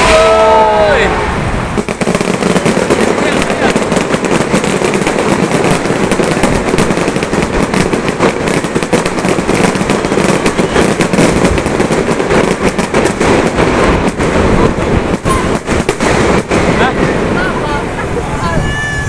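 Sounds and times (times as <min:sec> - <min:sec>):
fireworks crackling bangs: 0:00.0 - 0:19.0.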